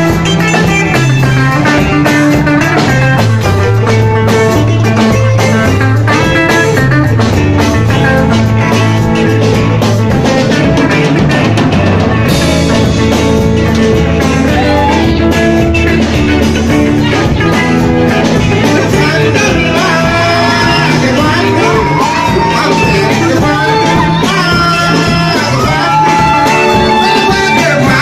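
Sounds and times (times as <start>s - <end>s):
bass guitar: 0.0s - 28.0s
drum kit beat: 0.0s - 28.0s
guitar: 0.0s - 28.0s.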